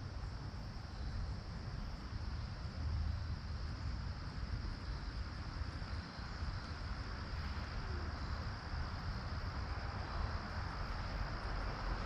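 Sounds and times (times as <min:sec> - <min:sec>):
even hiss: 0:00.0 - 0:12.0.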